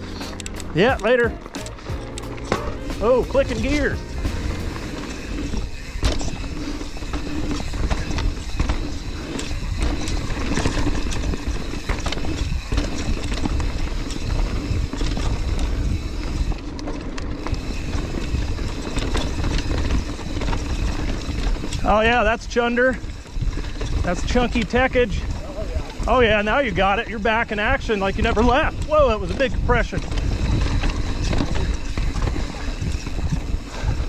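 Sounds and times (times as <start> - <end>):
bike rattling and knocking: 0.0 - 34.0.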